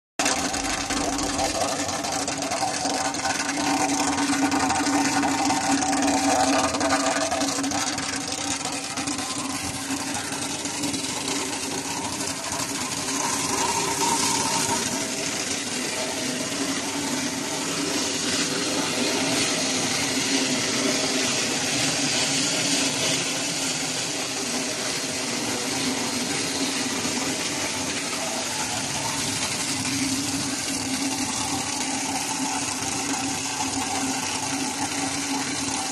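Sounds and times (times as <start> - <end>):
printing machine whirring: 0.2 - 35.9.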